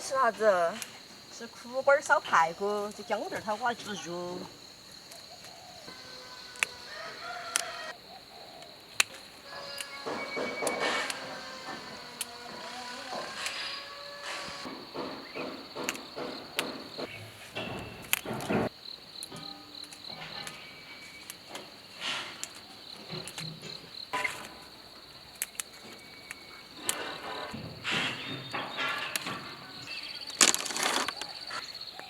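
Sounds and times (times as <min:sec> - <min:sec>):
insect trilling and chirping: 0:00.0 - 0:32.0.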